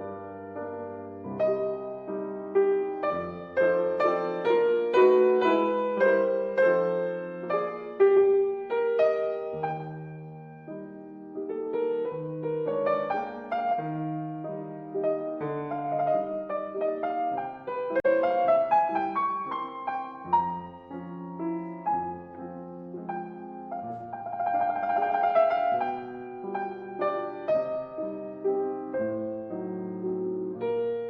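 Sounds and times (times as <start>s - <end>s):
calm piano piece: 0.0s - 31.0s.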